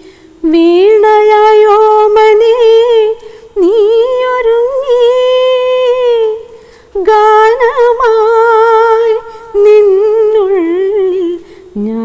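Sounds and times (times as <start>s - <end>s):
woman singing unaccompanied: 0.4s - 12.0s.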